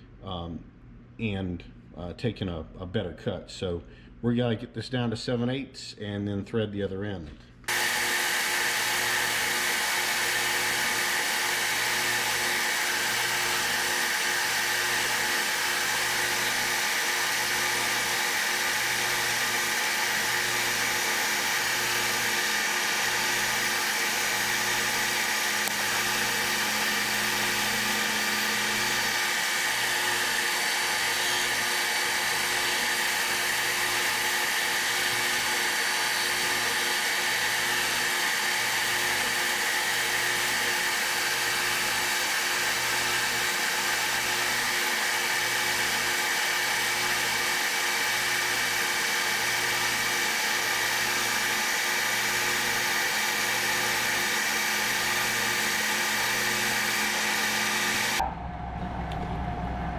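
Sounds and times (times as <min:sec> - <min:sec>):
metal lathe cutting steel: 0:07.7 - 0:58.4.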